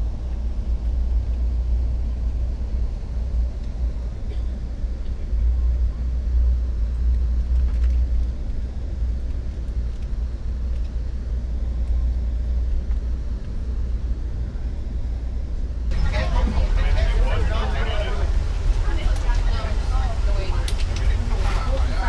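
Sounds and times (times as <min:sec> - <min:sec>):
train rumbling from inside coach: 0:00.0 - 0:22.0.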